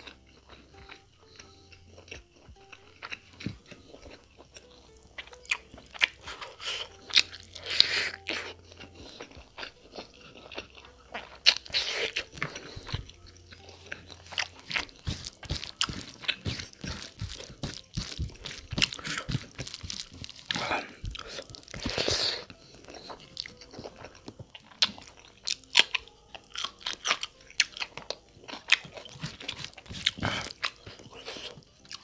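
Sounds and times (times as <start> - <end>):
wet chewing and lip-smacking: 0.0 - 32.0.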